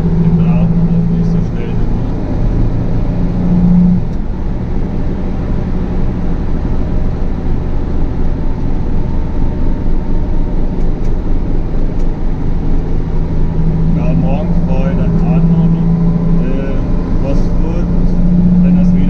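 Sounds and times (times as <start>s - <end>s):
tractor engine rumbling: 0.0s - 19.0s.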